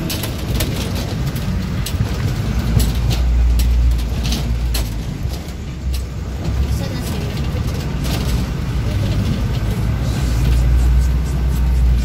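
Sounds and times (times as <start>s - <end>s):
rattling clicks: 0.0s - 10.8s
vehicle engine and road rumble: 0.0s - 12.0s.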